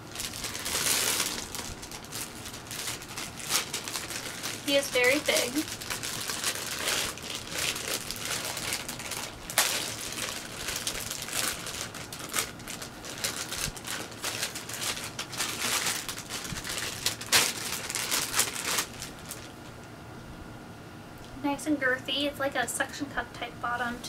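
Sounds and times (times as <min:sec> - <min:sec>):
plastic bag snapping: 0:00.0 - 0:19.5
plastic bag crinkling: 0:00.0 - 0:19.7.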